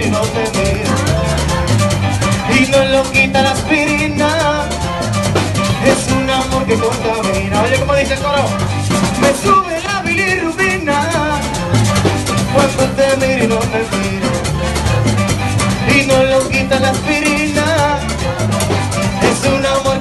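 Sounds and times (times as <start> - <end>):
congas and hand percussion: 0.0 - 20.0
live merengue band: 0.0 - 20.0.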